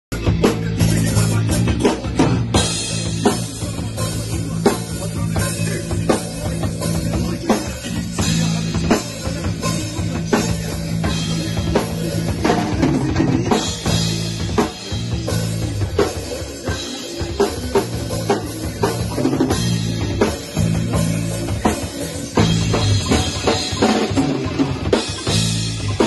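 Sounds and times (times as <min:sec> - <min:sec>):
electric bass guitar: 0:00.1 - 0:26.0
rock drum kit playing: 0:00.1 - 0:26.0.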